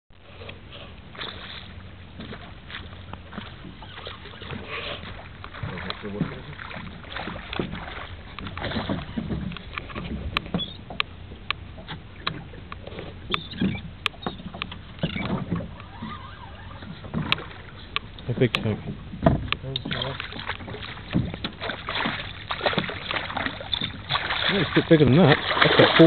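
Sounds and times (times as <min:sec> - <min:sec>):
boat engine humming: 0:00.1 - 0:26.0
water splashing: 0:00.3 - 0:26.0.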